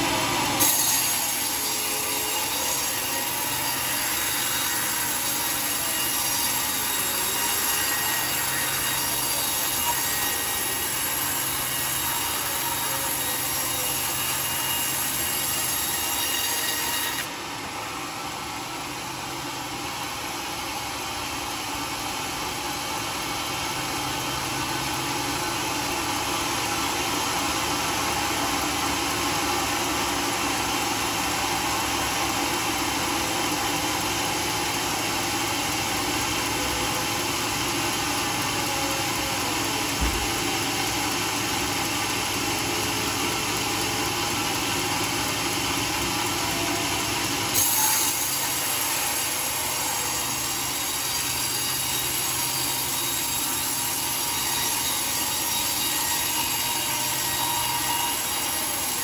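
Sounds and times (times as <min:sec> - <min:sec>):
saw blade cutting log: 0:00.0 - 0:59.0.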